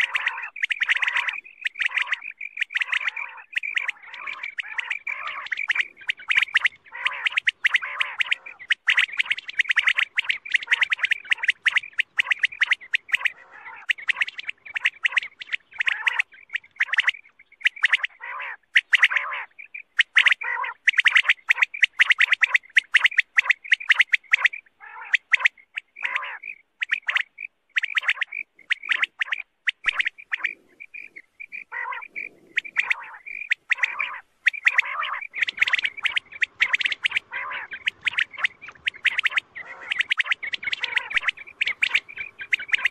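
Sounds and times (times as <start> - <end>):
quail chirping call: 0.0 - 42.9.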